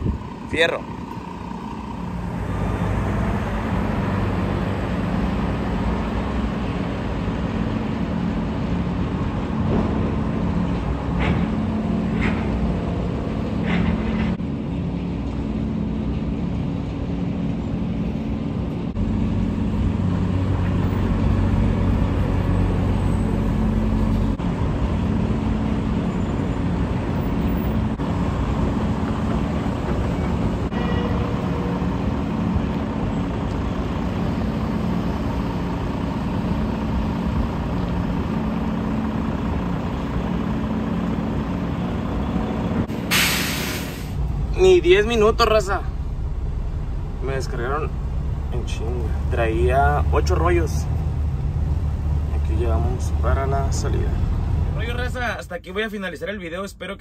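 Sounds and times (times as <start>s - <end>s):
diesel truck engine running: 0.0s - 14.4s, 15.0s - 55.1s.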